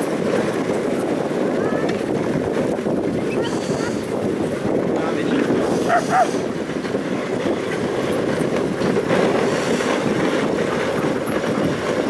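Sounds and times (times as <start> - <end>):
sled runners scraping snow: 0.0 - 12.0.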